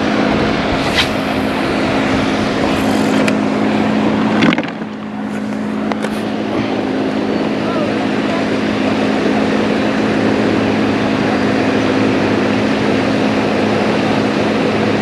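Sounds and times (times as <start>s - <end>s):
motor drone: 0.0s - 15.0s.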